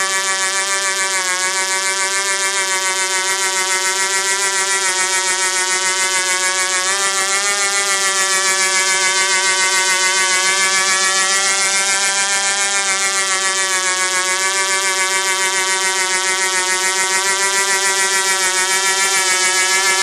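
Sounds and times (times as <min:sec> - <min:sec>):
model helicopter engine running: 0:00.0 - 0:20.0.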